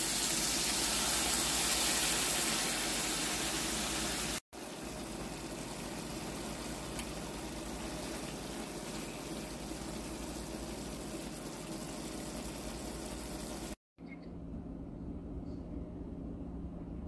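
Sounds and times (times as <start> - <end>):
sauce bubbling in a frying pan: 0.0 - 13.8.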